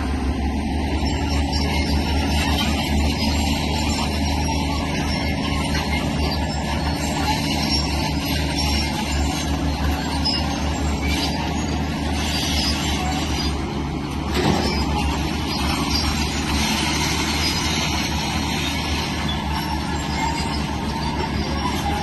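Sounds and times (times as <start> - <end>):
heavy machinery diesel engine drone: 0.0 - 22.0
rough mechanical clatter: 1.0 - 22.0.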